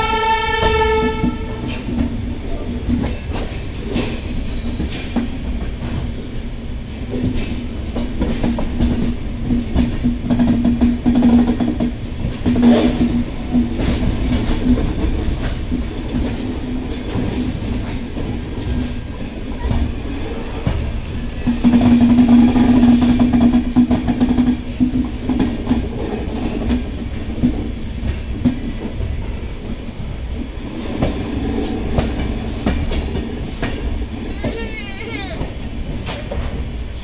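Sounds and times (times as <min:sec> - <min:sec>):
train hum and rumble: 0:00.0 - 0:37.0
wheels clacking over rail joints: 0:00.6 - 0:37.0.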